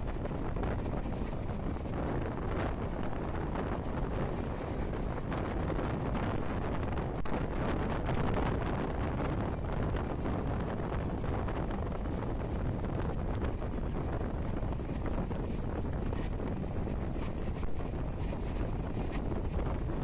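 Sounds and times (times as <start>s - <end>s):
train running rumble on rails: 0.0s - 20.0s
wind buffeting microphone: 0.0s - 20.0s.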